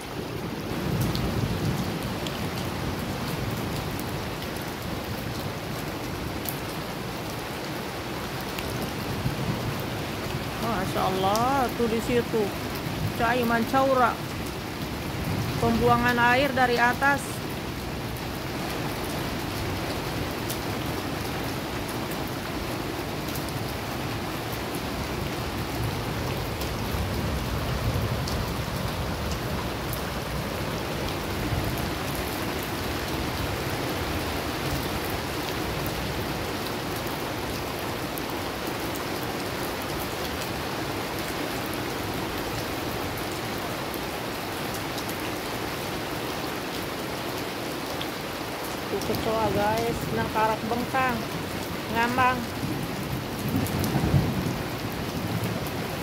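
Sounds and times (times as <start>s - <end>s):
rain splashing into water: 0.0s - 56.0s.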